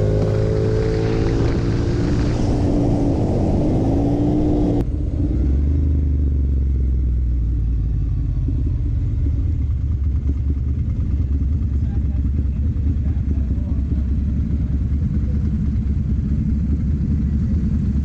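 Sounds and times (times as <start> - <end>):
low engine drone: 0.0 - 18.0
motorcycle engine running: 0.0 - 18.0.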